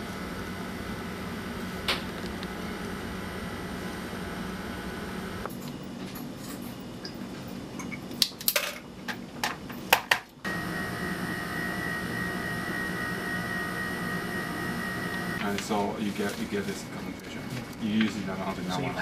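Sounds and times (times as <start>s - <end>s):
machine hum with high whine: 0.0s - 8.1s, 10.4s - 19.0s.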